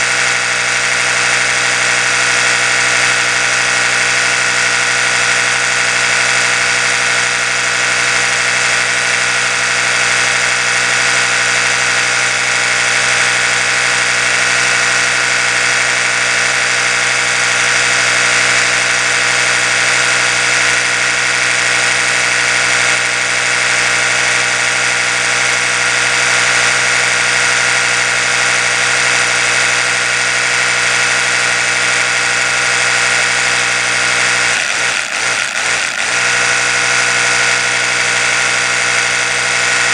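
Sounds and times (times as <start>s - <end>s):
electric toothbrush humming: 0.0s - 39.9s.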